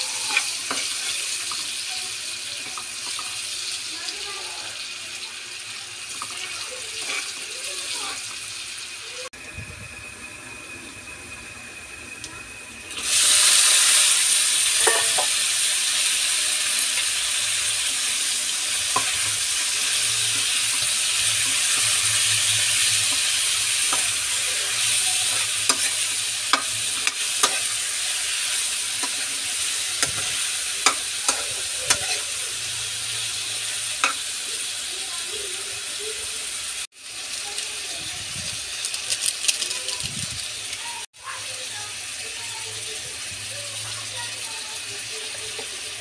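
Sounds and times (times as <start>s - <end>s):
food sizzling in butter: 0.0s - 46.0s.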